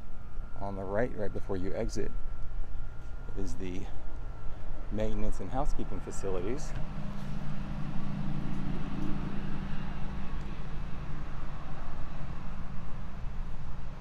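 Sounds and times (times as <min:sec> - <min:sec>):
low machine hum: 0:00.0 - 0:14.0
outdoor background noise: 0:00.0 - 0:14.0.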